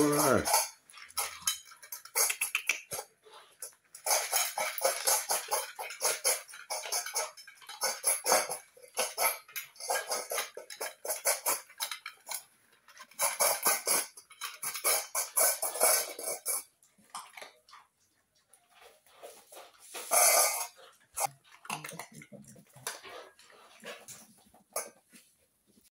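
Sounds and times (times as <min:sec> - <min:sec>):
puppy crunching dry kibble: 0:00.0 - 0:25.8.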